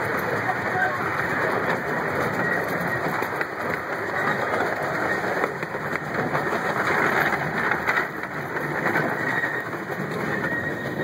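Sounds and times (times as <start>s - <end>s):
wheels rattling on rail: 0.0s - 11.0s.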